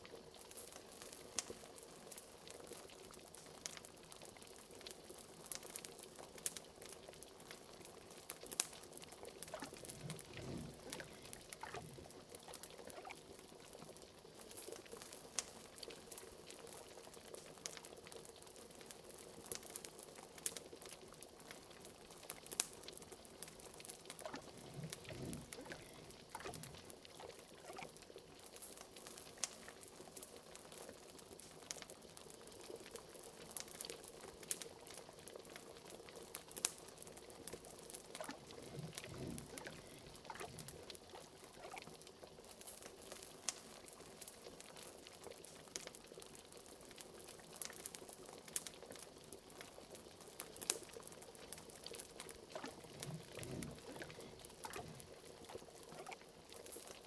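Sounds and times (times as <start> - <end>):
liquid bubbling in a pot: 0.0 - 57.0
wood fire crackling: 0.3 - 41.8, 42.4 - 57.0.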